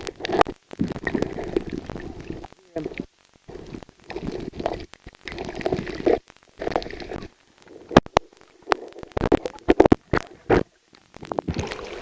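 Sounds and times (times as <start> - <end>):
underwater sloshing and bubbling: 0.0 - 12.0.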